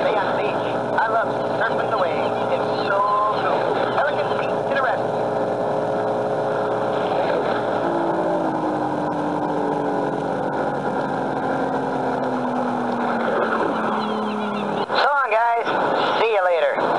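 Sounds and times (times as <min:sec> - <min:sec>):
motorboat engine hum: 0:00.0 - 0:16.9.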